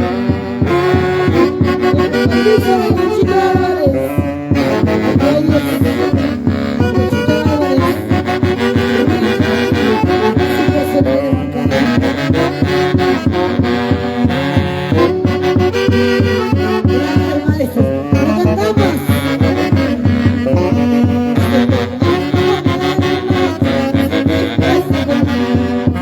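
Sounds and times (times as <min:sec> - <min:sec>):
dance orchestra playing: 0:00.0 - 0:26.0
horns playing melody: 0:00.0 - 0:26.0
steady drum beat: 0:00.0 - 0:26.0.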